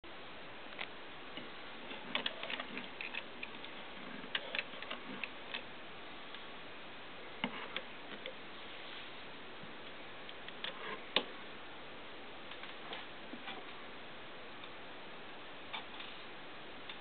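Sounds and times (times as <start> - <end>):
steady hiss: 0.1 - 17.0.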